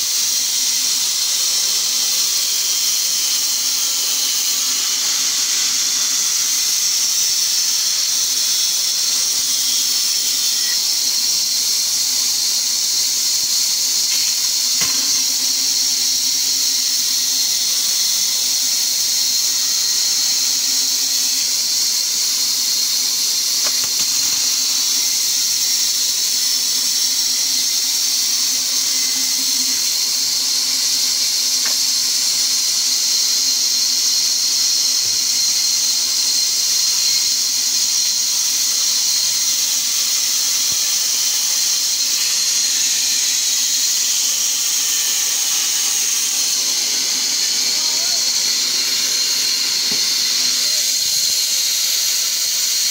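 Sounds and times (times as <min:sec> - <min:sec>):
band saw cutting log: 0:01.1 - 0:32.6, 0:39.8 - 0:52.9.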